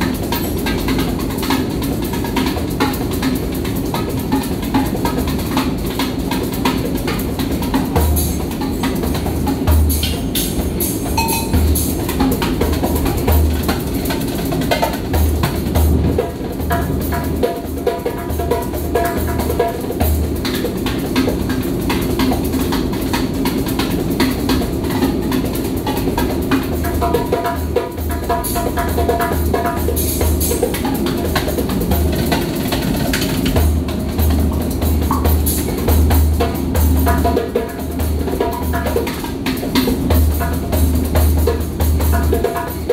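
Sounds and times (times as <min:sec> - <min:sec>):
hand drum playing: 0:00.0 - 0:42.9.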